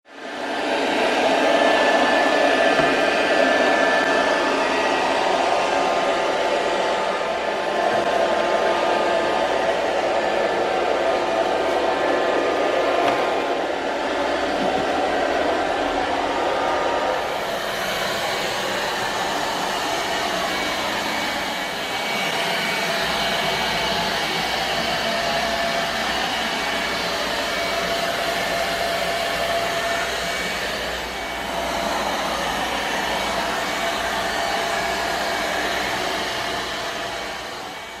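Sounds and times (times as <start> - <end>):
robot vacuum cleaner whirring: 0.1 - 38.0.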